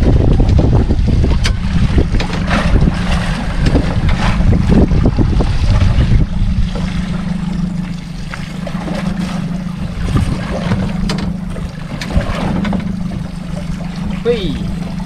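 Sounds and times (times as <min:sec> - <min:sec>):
boat engine low hum: 0:00.0 - 0:15.0
water against hull: 0:00.0 - 0:15.0
wind: 0:00.0 - 0:15.0.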